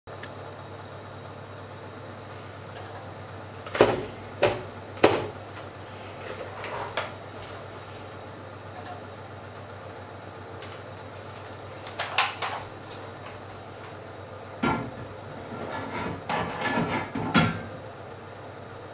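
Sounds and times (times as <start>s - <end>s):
steady low hum: 0.1s - 18.9s.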